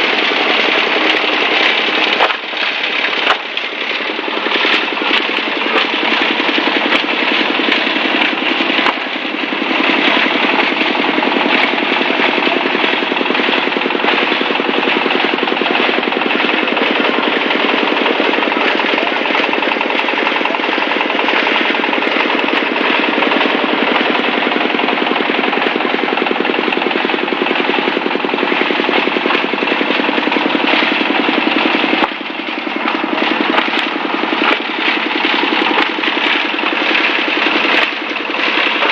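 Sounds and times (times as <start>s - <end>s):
blades chopping plastic bottles: 0.0s - 38.9s
engine drone: 0.0s - 38.9s.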